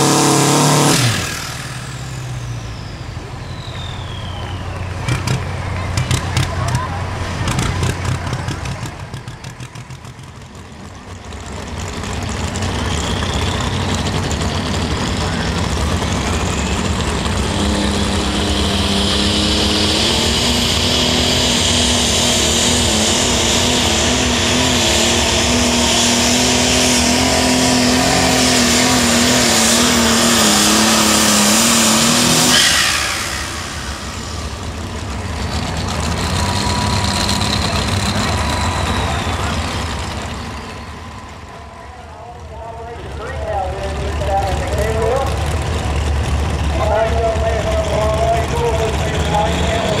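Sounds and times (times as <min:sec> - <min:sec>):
tractor engine at full throttle: 0:00.0 - 0:50.0.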